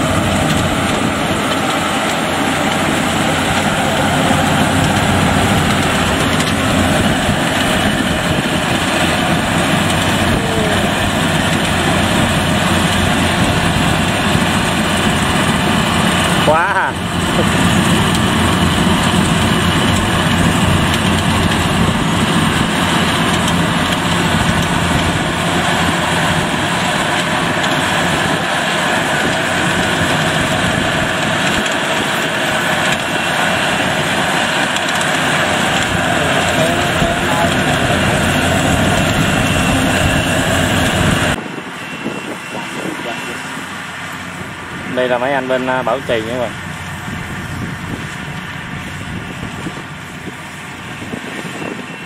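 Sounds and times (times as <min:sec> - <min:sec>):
combine harvester droning: 0:00.0 - 0:52.0.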